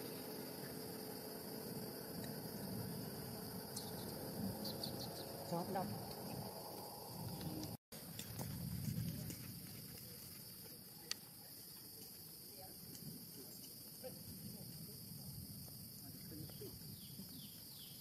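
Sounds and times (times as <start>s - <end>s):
insect chorus chirring: 0.0s - 18.0s.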